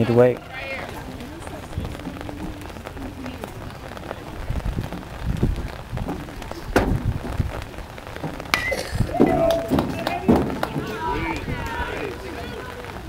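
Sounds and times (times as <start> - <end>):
rumbling crackling outdoor noise: 0.0 - 13.0.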